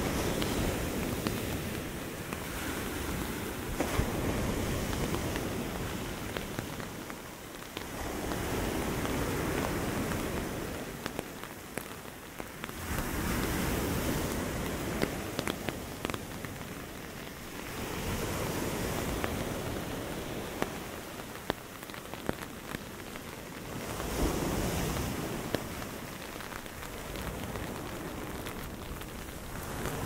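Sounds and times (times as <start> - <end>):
ocean surf breaking: 0.0 - 30.0
rain falling: 0.0 - 30.0
raindrops ticking close by: 0.1 - 2.5, 4.7 - 13.6, 14.2 - 17.8, 18.9 - 30.0.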